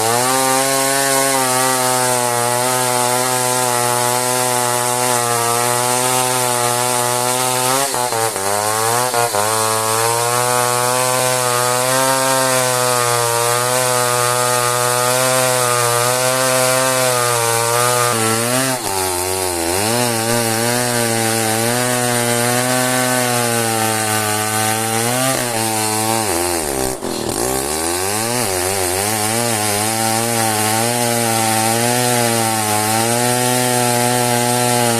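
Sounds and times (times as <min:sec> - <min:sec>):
chainsaw cutting log: 0:00.0 - 0:34.9.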